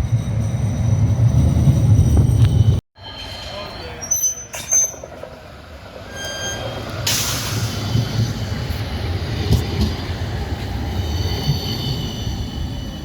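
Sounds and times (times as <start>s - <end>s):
tram low rumble: 0.0s - 13.0s.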